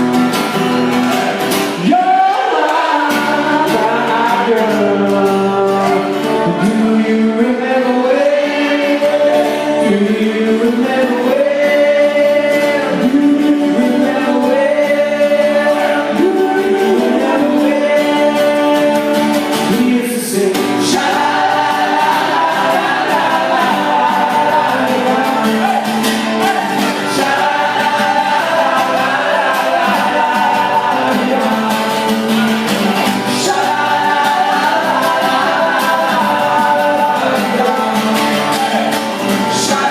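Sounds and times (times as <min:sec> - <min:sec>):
musical accompaniment: 0:00.0 - 0:39.9
male voices singing together: 0:01.6 - 0:39.9.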